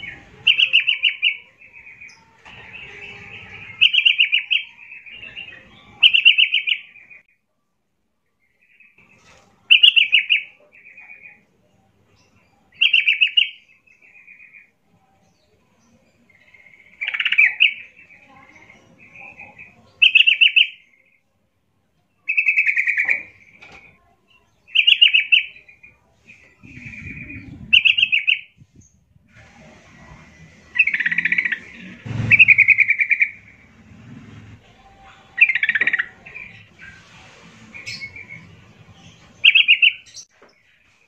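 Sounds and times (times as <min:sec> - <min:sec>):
bulbul singing: 0:00.0 - 0:07.3, 0:08.4 - 0:21.2, 0:22.2 - 0:29.0, 0:30.4 - 0:37.0, 0:37.7 - 0:40.4.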